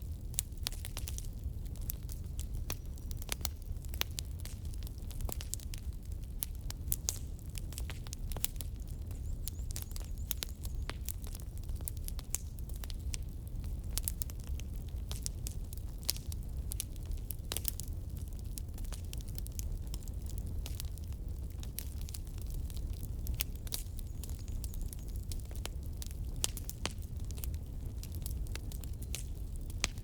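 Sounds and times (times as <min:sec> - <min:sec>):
firewood crackling and popping: 0:00.0 - 0:30.0.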